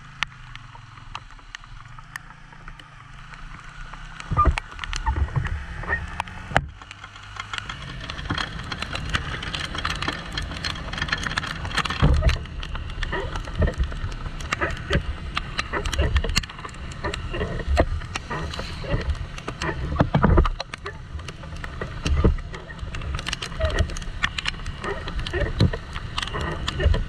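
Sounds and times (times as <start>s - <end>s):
raindrops striking camera: 0.0s - 27.0s.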